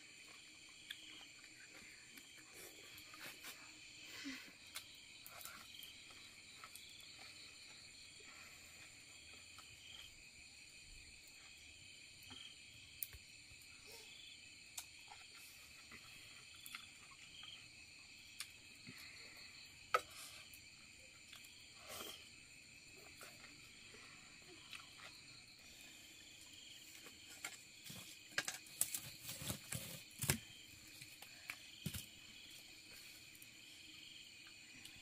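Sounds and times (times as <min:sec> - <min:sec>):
forest insects chorus: 0:00.0 - 0:35.0.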